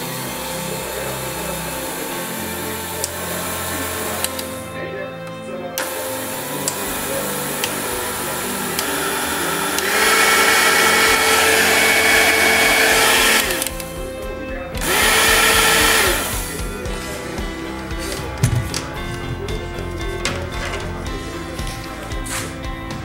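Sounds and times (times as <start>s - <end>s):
hand mixer motor whine: 0.0s - 20.2s.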